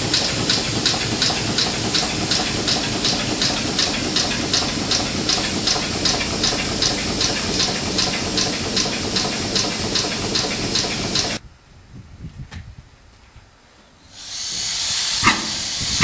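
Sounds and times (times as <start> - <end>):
steam engine chuffing: 0.0 - 11.4, 14.2 - 16.0
steam hiss: 0.0 - 11.4, 14.0 - 16.0.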